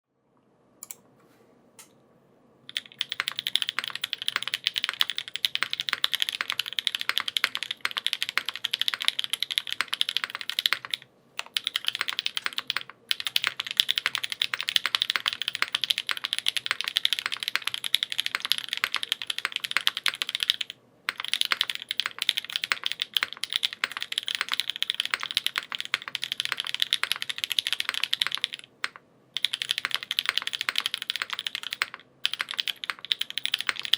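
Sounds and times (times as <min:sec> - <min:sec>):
mechanical keyboard typing: 0:02.7 - 0:33.9.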